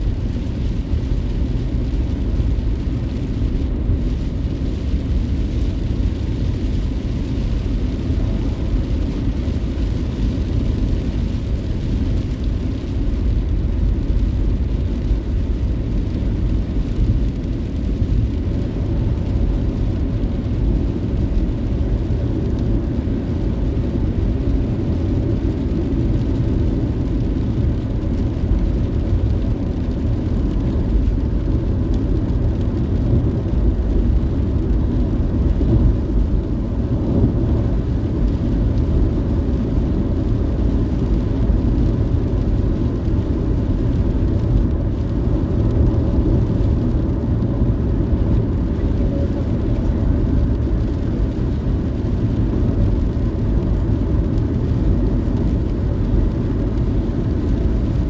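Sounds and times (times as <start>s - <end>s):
car driving heard from inside: 0.0s - 58.0s.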